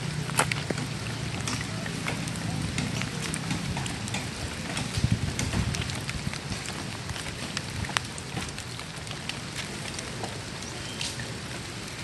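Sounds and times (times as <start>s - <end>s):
drops ticking on hard surfaces: 0.0s - 11.4s
steady rain: 0.0s - 12.0s.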